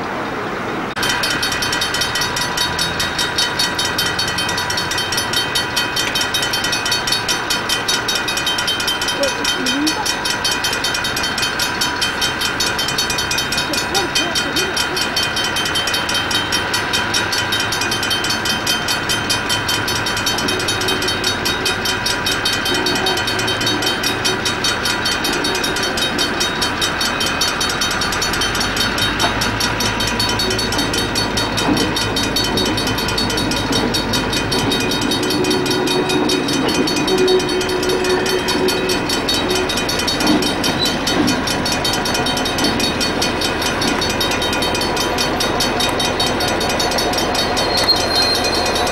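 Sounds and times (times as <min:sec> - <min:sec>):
locomotive engine throbbing: 0:00.0 - 0:48.9.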